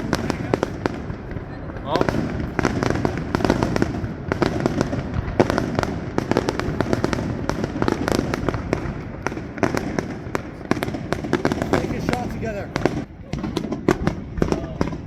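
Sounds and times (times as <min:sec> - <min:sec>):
aerial fireworks barrage: 0:00.0 - 0:15.0.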